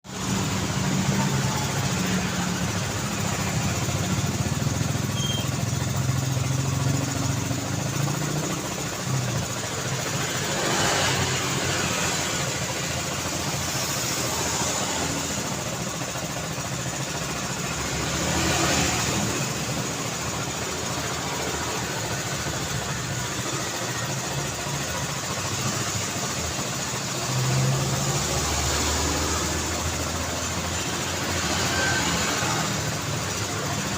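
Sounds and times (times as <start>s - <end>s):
vehicles passing close by: 0.0s - 33.9s.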